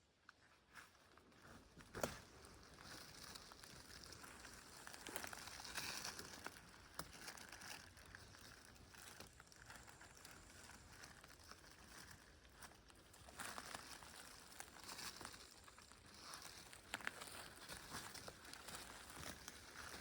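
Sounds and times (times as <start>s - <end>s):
forest litter rustling and crackling: 0.8s - 20.0s.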